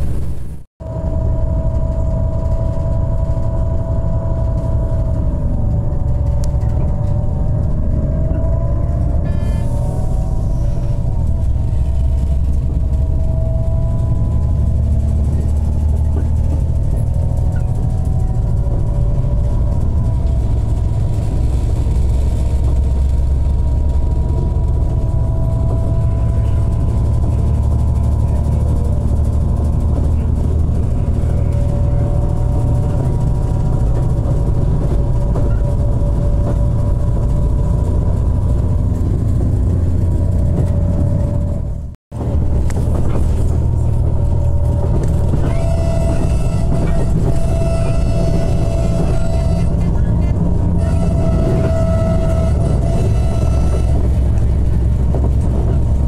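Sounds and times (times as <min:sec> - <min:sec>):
train rumbling on rails: 0:00.0 - 0:56.0
faint drifting tones: 0:00.8 - 0:56.0.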